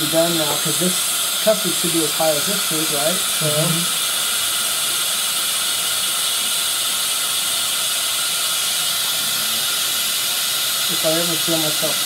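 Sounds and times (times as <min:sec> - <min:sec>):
dental suction hissing: 0:00.0 - 0:12.0.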